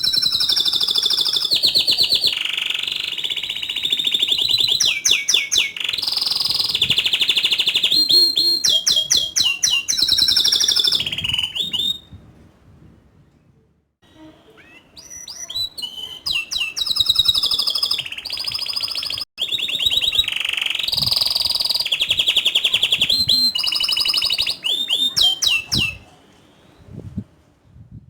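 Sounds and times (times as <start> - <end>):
canary singing trills: 0.0 - 12.2, 14.0 - 26.8.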